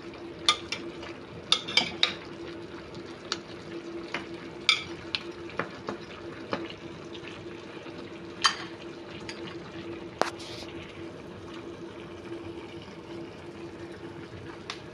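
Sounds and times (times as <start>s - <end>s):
sauce bubbling in a pot: 0.0s - 14.9s.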